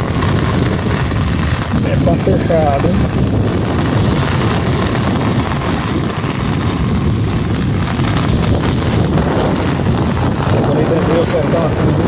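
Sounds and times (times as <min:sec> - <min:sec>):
heavy rain: 0:00.0 - 0:12.0
wind buffeting microphone: 0:00.0 - 0:12.0.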